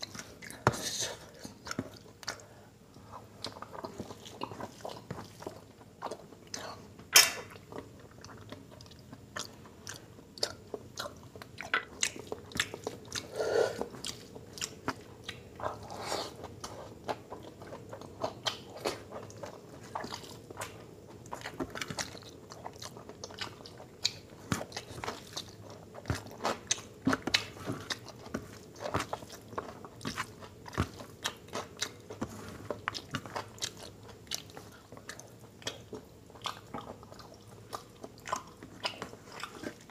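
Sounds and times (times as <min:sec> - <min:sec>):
man chewing food: 0:00.0 - 0:39.9.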